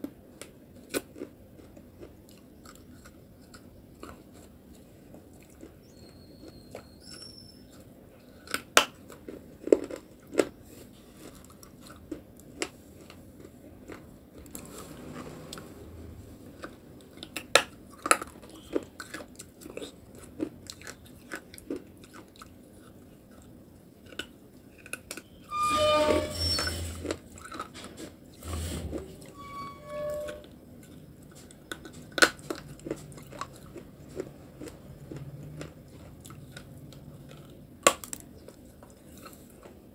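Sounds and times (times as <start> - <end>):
chewing clay paste: 0.0 - 25.5, 27.0 - 28.5, 30.6 - 39.9.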